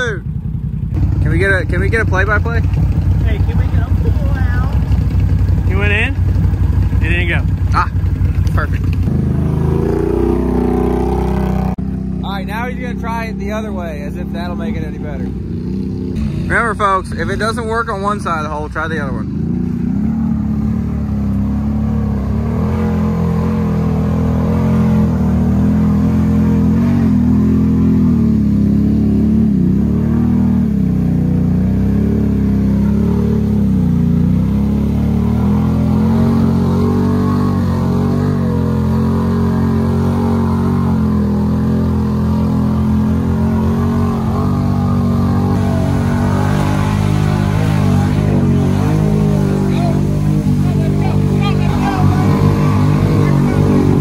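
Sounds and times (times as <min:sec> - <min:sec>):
engine revving under load: 0:00.0 - 0:54.0.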